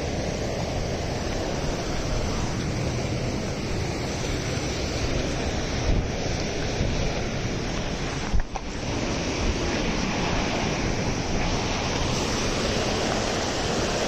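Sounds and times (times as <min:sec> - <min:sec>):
rushing falling water: 0:00.0 - 0:14.0.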